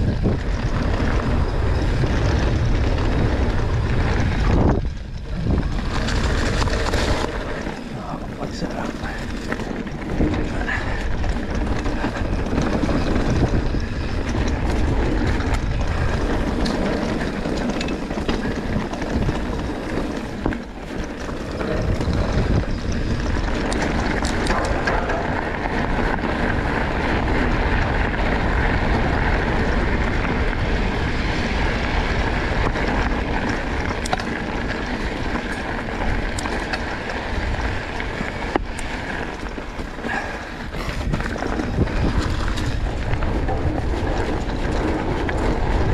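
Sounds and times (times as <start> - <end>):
bike clicks and rattles: 0.0 - 45.9
bike tyre noise: 0.0 - 45.9
wind rushing on microphone: 0.0 - 45.9.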